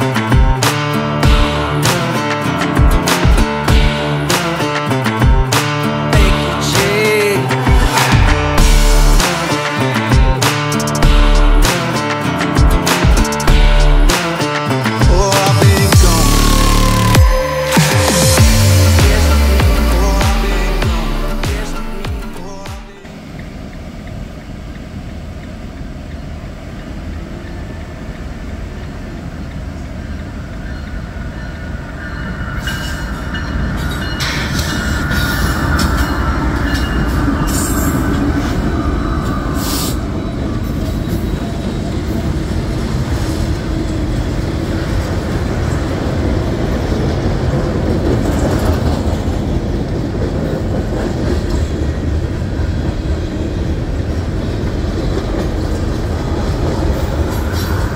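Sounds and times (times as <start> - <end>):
diesel locomotives rumbling: 0.0 - 57.9.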